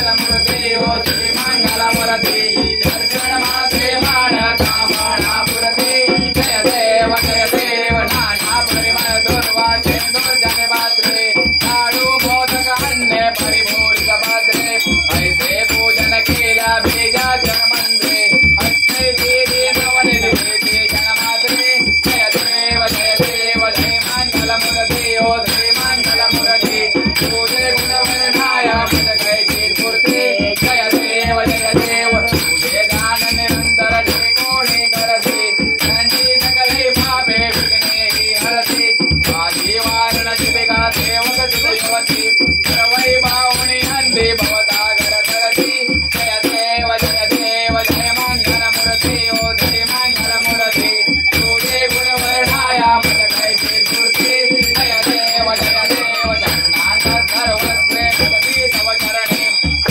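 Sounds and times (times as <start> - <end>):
bell ringing: 0.0 - 59.9
group singing: 0.0 - 59.9
rhythmic percussion: 0.0 - 59.9.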